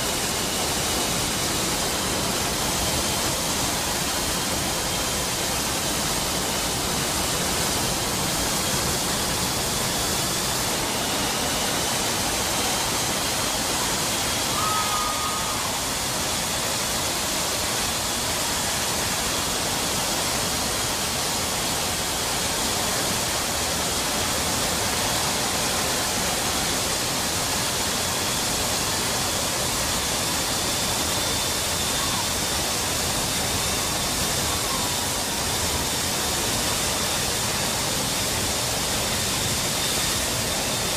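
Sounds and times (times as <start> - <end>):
jet engines: 0.0 - 40.9.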